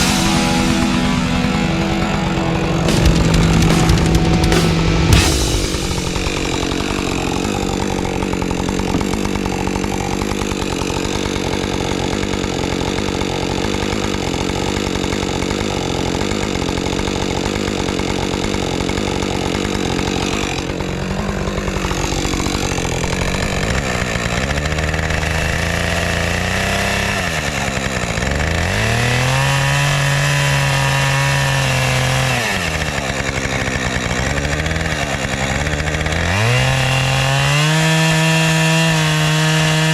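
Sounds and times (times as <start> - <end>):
chainsaw cutting into log: 0.0 - 39.9.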